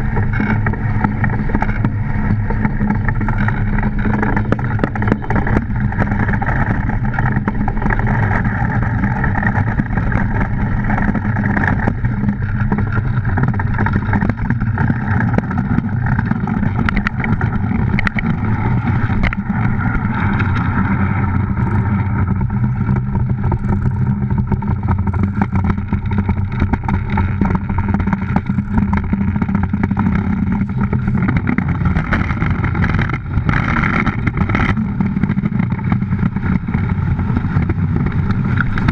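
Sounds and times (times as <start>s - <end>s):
low hull hum: 0.0s - 38.9s.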